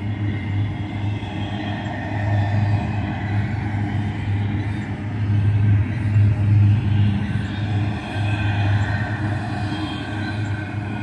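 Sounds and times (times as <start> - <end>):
rushing clatter of train: 0.0 - 11.0
train wheels rumbling on rails: 0.0 - 11.0.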